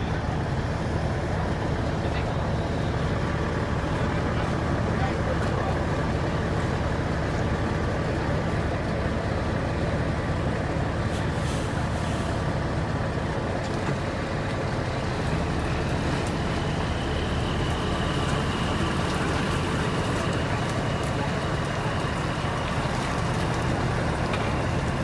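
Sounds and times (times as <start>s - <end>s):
diesel locomotive engines rumbling: 0.0s - 25.0s.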